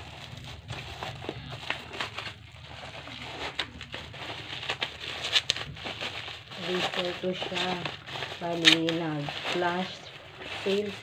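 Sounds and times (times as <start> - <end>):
bubble wrap and plastic crinkling: 0.0 - 11.0.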